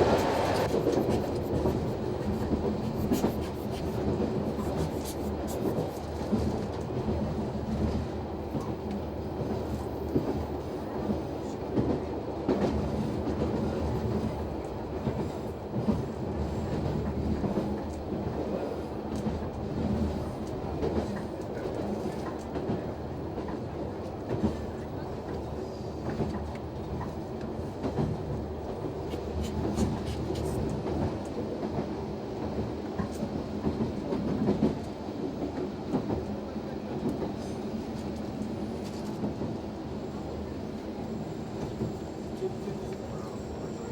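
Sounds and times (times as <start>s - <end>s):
railcar engine drone: 0.0s - 43.9s.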